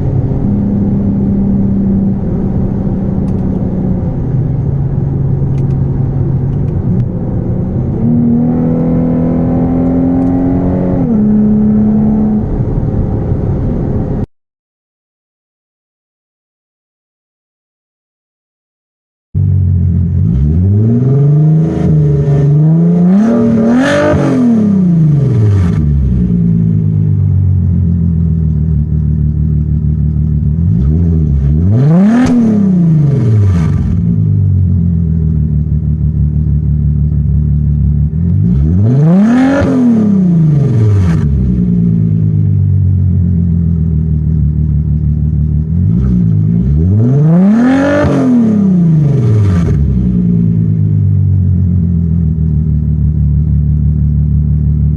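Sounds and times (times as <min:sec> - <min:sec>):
car engine idling and revving: 0:00.0 - 0:14.3, 0:19.4 - 0:54.9.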